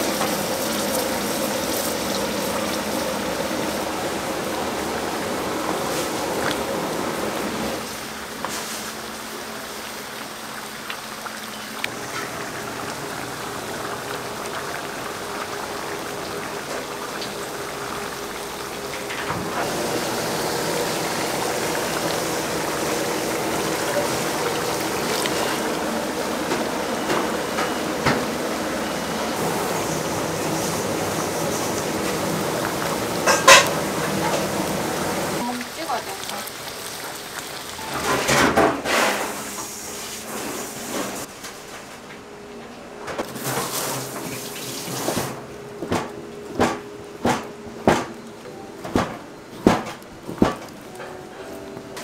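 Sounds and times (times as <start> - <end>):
hot oil sizzling: 0.0 - 41.3, 43.2 - 45.4.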